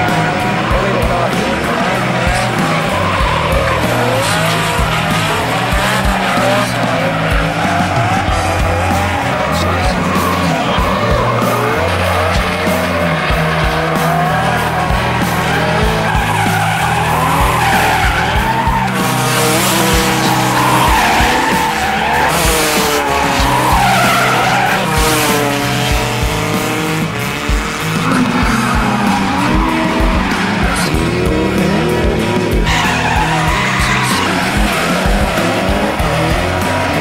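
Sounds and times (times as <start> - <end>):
tyre squeal: 0.0 - 31.8, 32.4 - 37.0
background music with bass: 0.0 - 37.0
car engines revving: 0.0 - 37.0.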